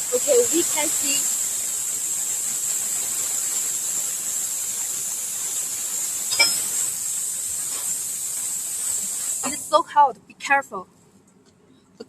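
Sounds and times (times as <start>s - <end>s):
plasma cutter torch hissing: 0.0s - 9.8s.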